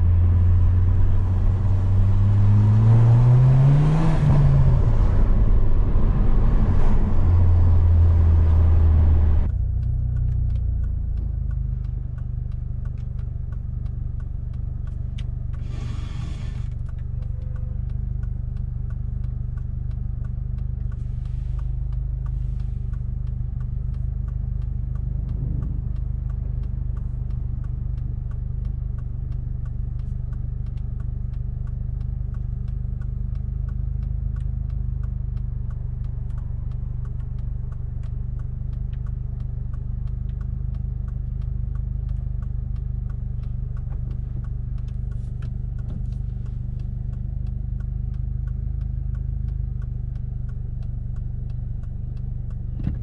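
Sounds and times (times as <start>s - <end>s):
car engine idling: 0.0s - 53.0s
light ticking: 9.4s - 53.0s.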